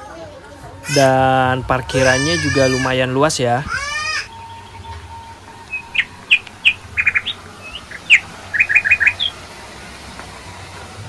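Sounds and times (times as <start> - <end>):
songbird chirping: 0.8 - 10.8.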